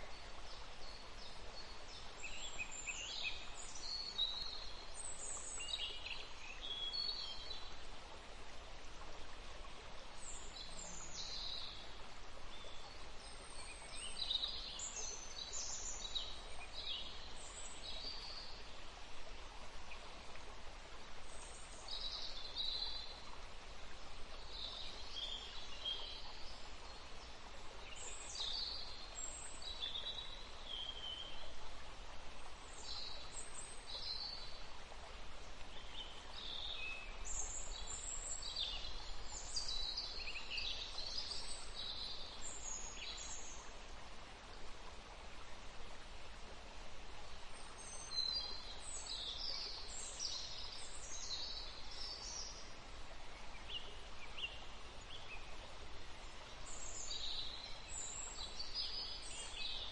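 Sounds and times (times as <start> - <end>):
faint hiss: 0.0 - 59.9.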